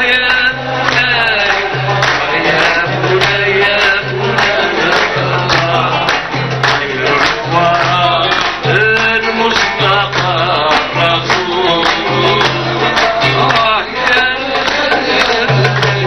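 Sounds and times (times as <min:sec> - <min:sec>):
man singing: 0:00.0 - 0:16.0
plucked lute: 0:00.0 - 0:16.0.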